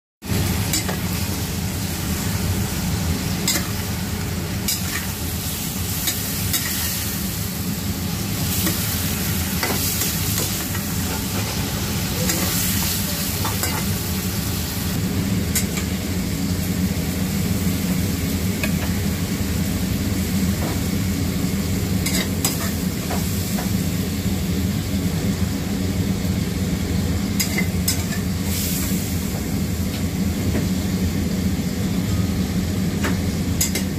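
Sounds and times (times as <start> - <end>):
food sizzling in a wok: 0.2 - 33.9.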